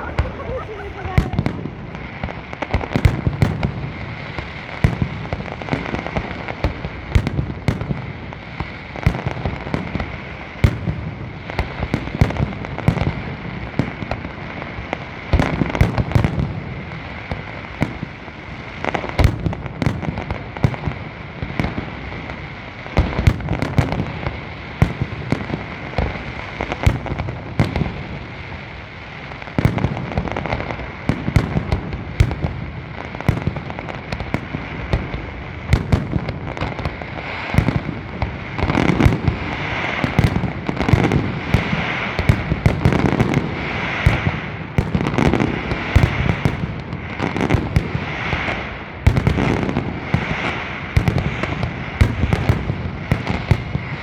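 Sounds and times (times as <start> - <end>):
fireworks bangs: 0.0 - 54.0
fireworks rumble and crackle: 0.0 - 54.0.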